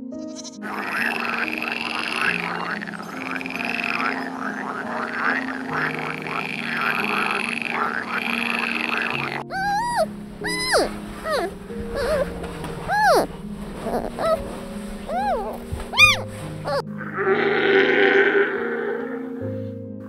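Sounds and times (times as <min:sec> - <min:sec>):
background music: 0:00.0 - 0:20.0
chorus of animal calls: 0:00.6 - 0:14.5, 0:15.1 - 0:19.4.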